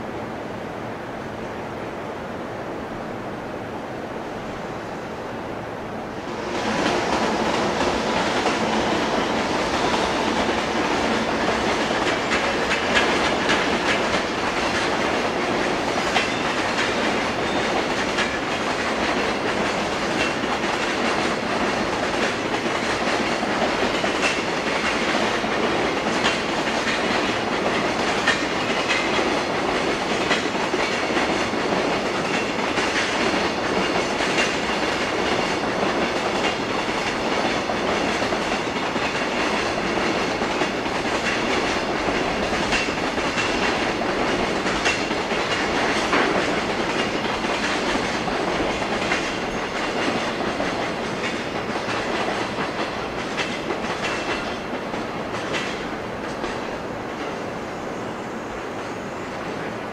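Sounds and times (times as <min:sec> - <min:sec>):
freight train wheels clattering: 0:06.3 - 0:57.6.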